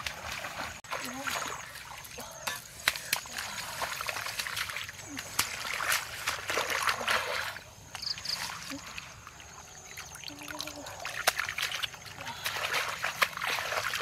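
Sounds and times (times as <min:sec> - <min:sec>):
hands splashing in puddle water: 0:00.0 - 0:07.7, 0:10.0 - 0:14.0
water trickling and dripping: 0:00.0 - 0:14.0.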